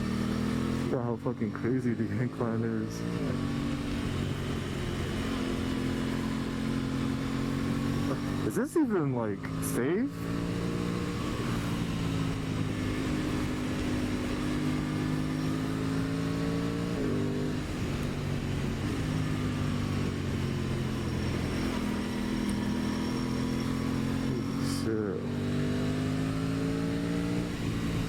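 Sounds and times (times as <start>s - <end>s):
motorcycle engine pulling uphill: 0.0s - 28.0s
wind and road noise: 0.0s - 28.0s.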